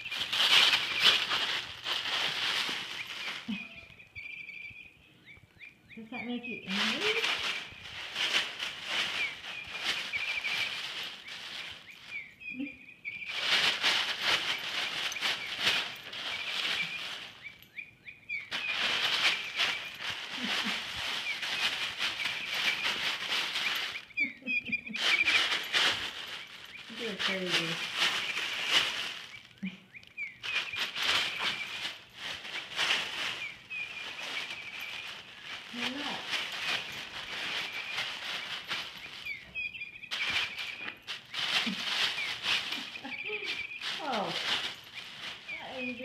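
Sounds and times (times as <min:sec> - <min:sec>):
toy rustling and rattling: 0:00.0 - 0:03.9, 0:06.2 - 0:12.2, 0:13.2 - 0:17.8, 0:18.5 - 0:46.0.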